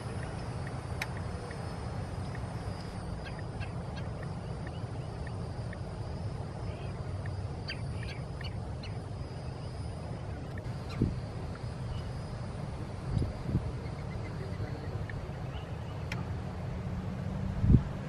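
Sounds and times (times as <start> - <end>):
birds chirping: 0.0 - 16.2
wind rumble on microphone: 0.0 - 18.0.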